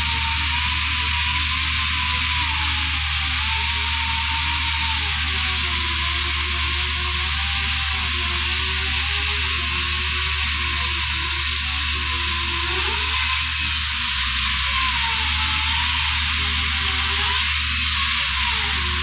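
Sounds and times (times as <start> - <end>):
pneumatic chainsaw cutting: 0.0 - 19.0.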